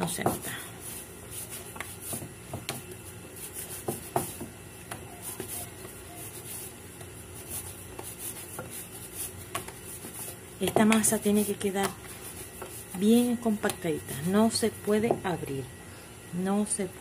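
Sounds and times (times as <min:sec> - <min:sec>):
hands kneading dough: 0:00.0 - 0:15.6.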